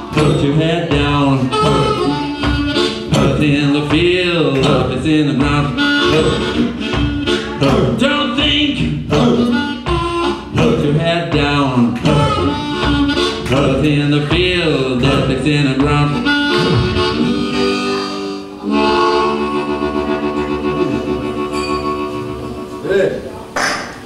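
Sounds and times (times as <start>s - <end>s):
harmonica wailing notes: 0.0s - 10.9s, 12.0s - 14.8s, 15.4s - 22.8s
band playing: 0.0s - 24.0s.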